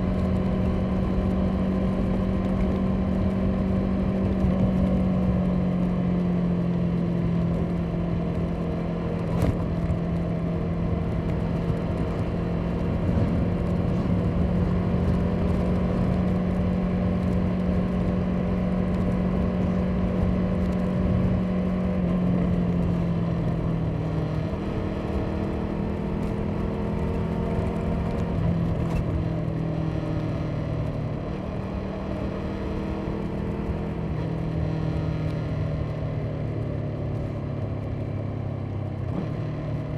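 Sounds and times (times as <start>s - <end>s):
motorcycle engine running: 0.0s - 39.9s
wind and road rumble: 0.0s - 39.9s.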